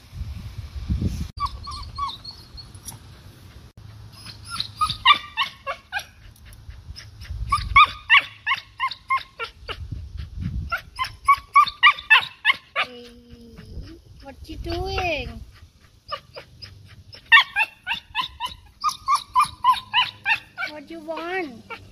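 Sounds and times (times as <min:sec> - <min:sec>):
dog whining and yipping: 0:01.4 - 0:03.0, 0:04.1 - 0:10.0, 0:10.7 - 0:21.9.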